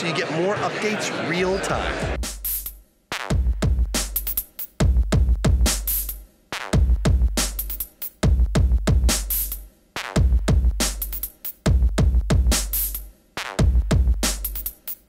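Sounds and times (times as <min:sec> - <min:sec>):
drum machine beat: 0:02.0 - 0:15.0.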